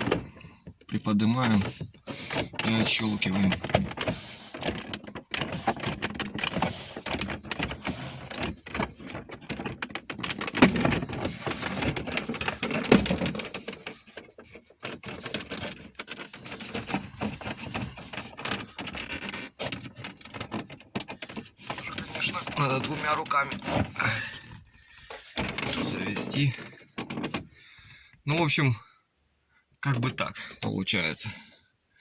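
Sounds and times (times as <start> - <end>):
plastic trim clicking and rattling: 0.0 - 28.5.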